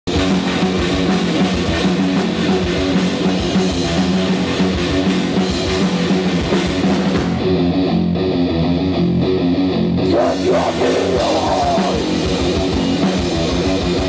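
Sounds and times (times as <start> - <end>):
drum kit: 0.1 - 14.0
electric guitars: 0.1 - 14.0.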